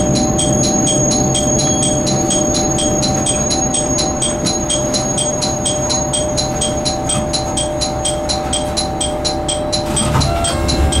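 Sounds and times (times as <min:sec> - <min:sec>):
bell ringing rapidly: 0:00.0 - 0:11.0
diesel railcar idling hum: 0:00.0 - 0:11.0.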